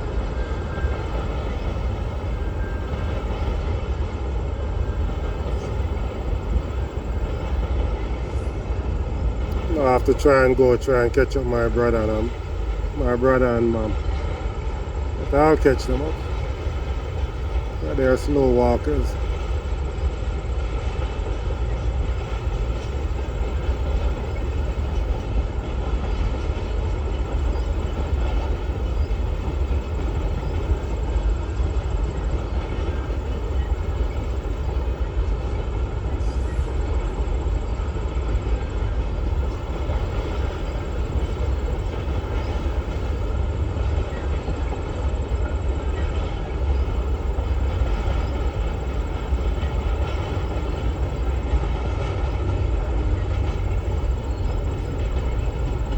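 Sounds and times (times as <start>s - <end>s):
train cars rolling past: 0.0s - 55.9s.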